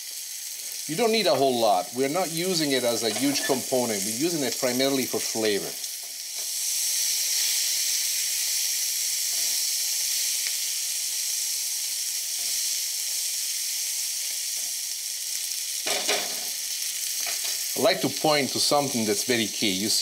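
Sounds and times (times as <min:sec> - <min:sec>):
vegetables sizzling in a pan: 0:00.0 - 0:20.0.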